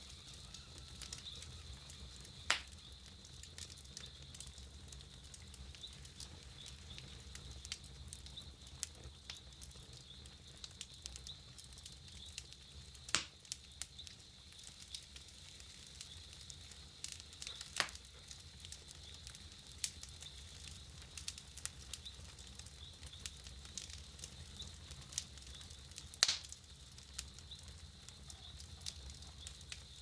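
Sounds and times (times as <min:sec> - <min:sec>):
campfire crackling and popping: 0:00.0 - 0:30.0
low rumble of burning fire: 0:00.0 - 0:30.0.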